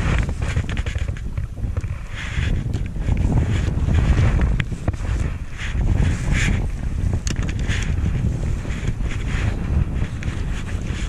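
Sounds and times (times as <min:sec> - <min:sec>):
choppy waves splashing against boat: 0:00.0 - 0:11.0
wind buffeting microphone: 0:00.0 - 0:11.0.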